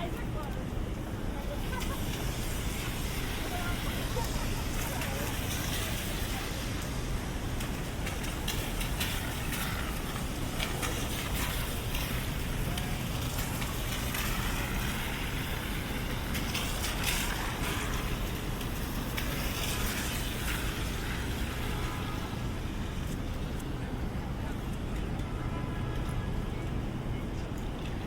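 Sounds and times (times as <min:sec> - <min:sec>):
traffic rumble: 0:00.0 - 0:28.0
hiss of wet street: 0:00.9 - 0:24.5.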